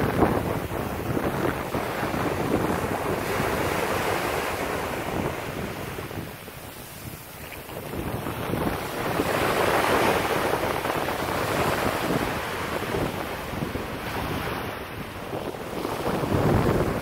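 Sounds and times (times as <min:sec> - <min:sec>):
small waves washing over sand: 0:00.0 - 0:17.0.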